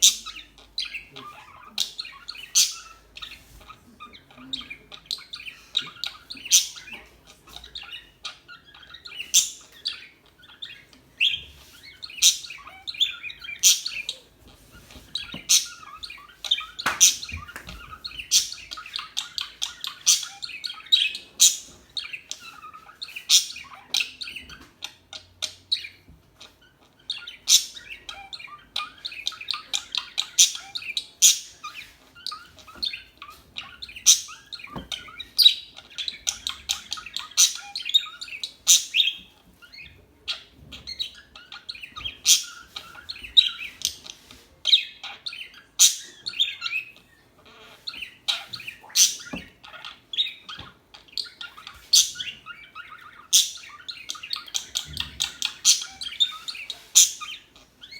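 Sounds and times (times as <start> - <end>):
parakeets chirping: 0.0 - 57.9.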